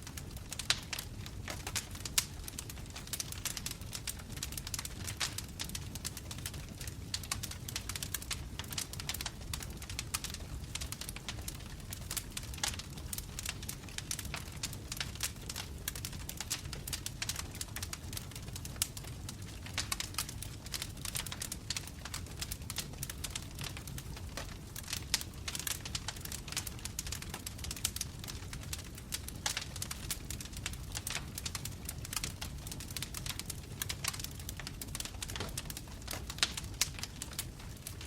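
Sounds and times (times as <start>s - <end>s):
logs crackling and popping: 0.0s - 38.0s
low rumble of flames: 0.0s - 38.0s.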